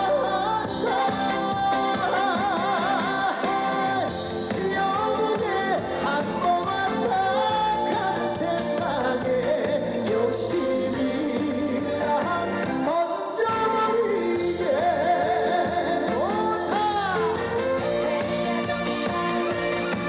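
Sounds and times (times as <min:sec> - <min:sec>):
backing track: 0:00.0 - 0:20.0
person singing with vibrato: 0:00.0 - 0:20.0.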